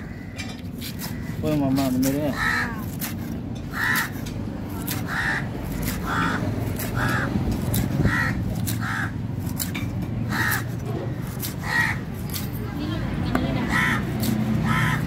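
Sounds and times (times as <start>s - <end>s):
crows cawing: 0.0s - 4.2s, 4.8s - 12.4s, 13.6s - 15.0s.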